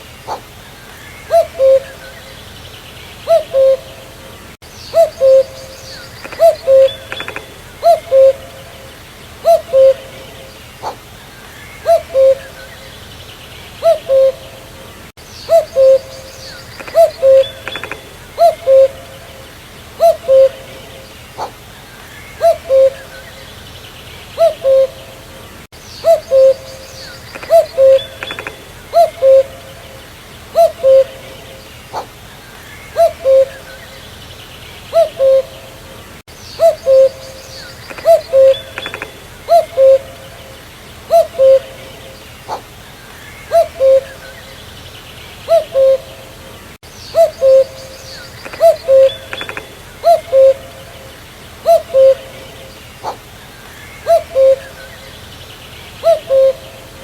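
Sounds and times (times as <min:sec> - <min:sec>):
cuckoo calling: 0:00.0 - 0:02.6, 0:03.2 - 0:13.1, 0:13.8 - 0:23.6, 0:24.3 - 0:34.2, 0:34.9 - 0:44.7, 0:45.4 - 0:55.3, 0:56.0 - 0:57.0
small birds chirping: 0:00.0 - 0:57.0.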